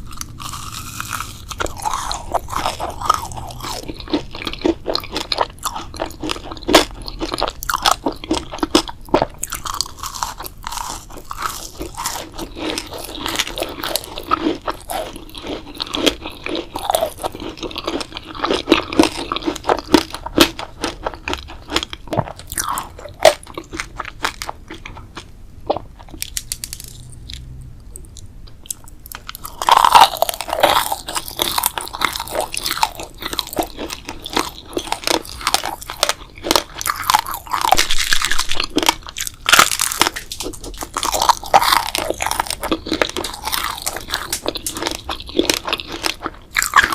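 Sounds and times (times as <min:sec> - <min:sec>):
crunching and chewing crisp food: 0:00.0 - 0:46.9.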